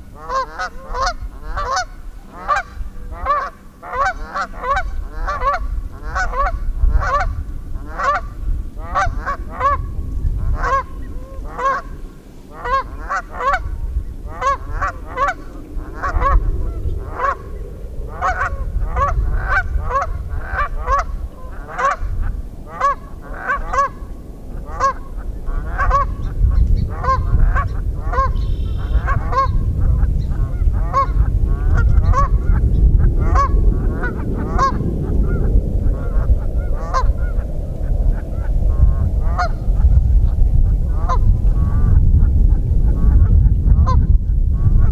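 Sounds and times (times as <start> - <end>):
low rumble: 0.0 - 44.9
geese honking: 0.2 - 17.4, 18.1 - 42.0.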